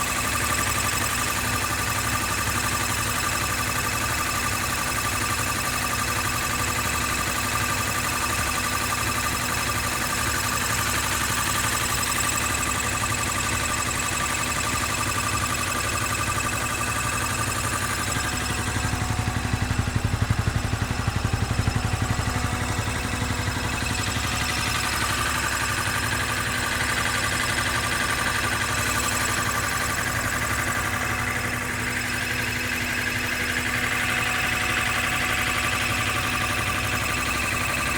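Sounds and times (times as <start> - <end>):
motorcycle engine idling: 0.0 - 37.9.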